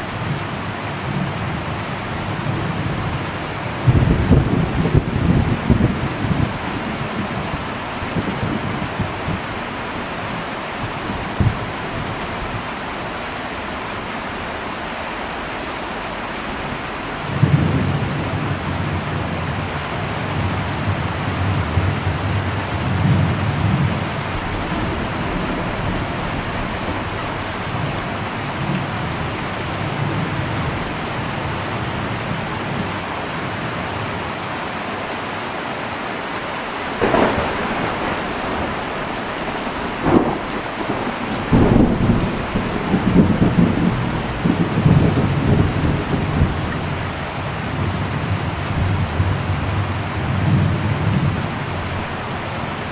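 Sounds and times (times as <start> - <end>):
thunder rumbling: 0.0 - 12.7, 17.2 - 32.9, 36.4 - 52.9
heavy rain on metal roof: 0.0 - 52.9.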